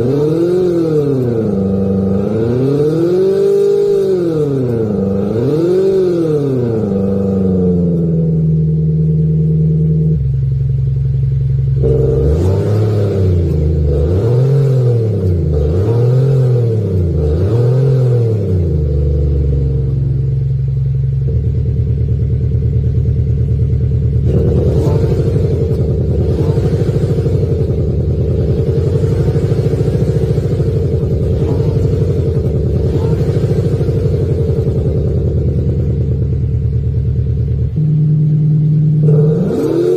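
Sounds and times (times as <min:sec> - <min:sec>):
synthetic engine sound revving and idling: 0:00.0 - 0:39.9.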